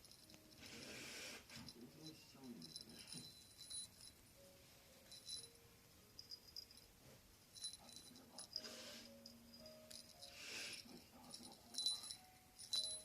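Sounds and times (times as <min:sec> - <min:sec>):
small bell jingling: 0:00.0 - 0:00.7, 0:01.5 - 0:04.4, 0:05.0 - 0:13.0.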